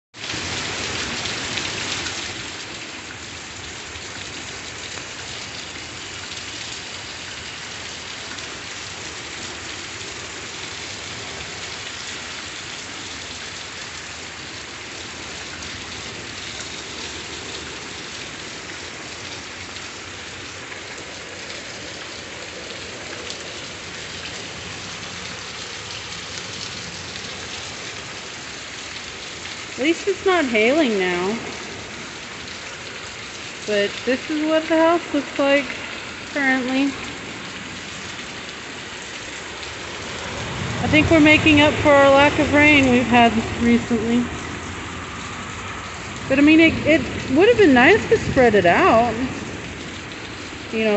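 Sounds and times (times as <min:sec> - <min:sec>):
heavy rain pouring: 0:00.2 - 0:50.9.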